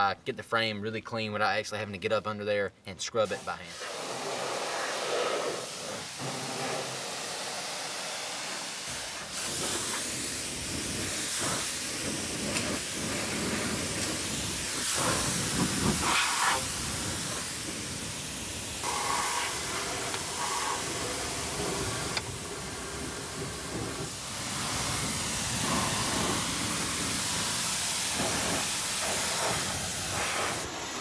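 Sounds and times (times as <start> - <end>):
pressure washer spray hissing: 3.2 - 31.0.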